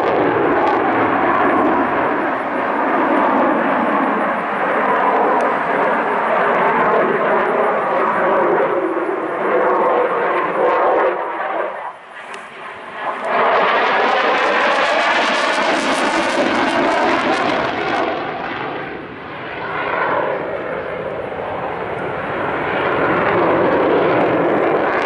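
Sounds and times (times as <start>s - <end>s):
jet engine roar overhead: 0.0s - 25.0s.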